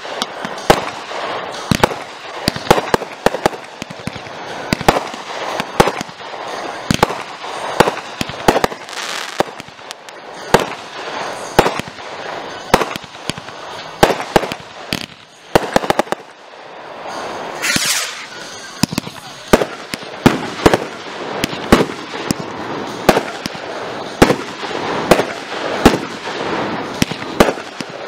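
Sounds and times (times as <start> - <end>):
firework hiss: 0.0 - 28.0
fireworks bangs and crackles: 0.0 - 28.0.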